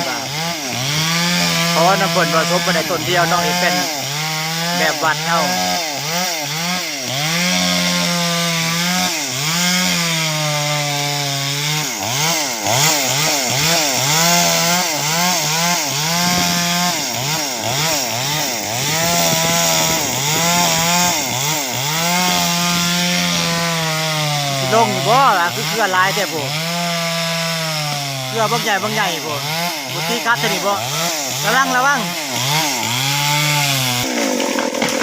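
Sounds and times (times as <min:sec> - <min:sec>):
chainsaw cutting into tree trunk: 0:00.0 - 0:35.0.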